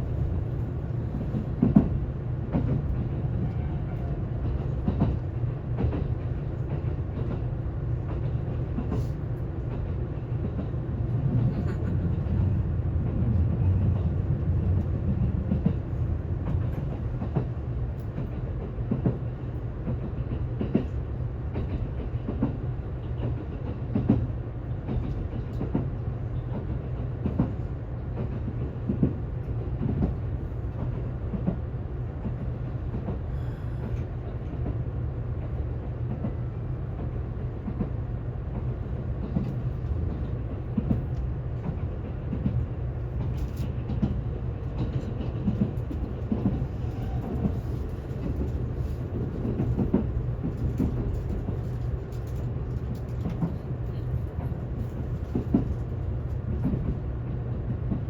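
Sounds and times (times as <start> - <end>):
train running low rumble: 0.0 - 58.0.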